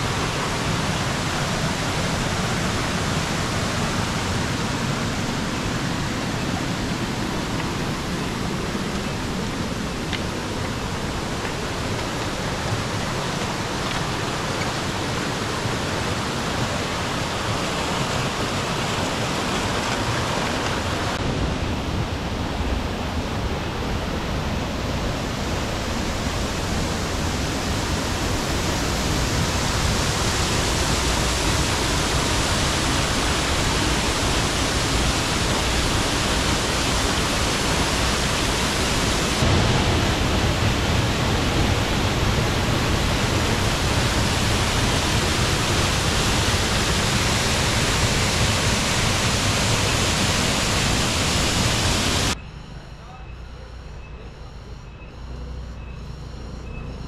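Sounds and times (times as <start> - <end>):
stream running over rocks: 0.0 - 21.2, 22.4 - 52.4
waterfall rushing: 0.0 - 52.4.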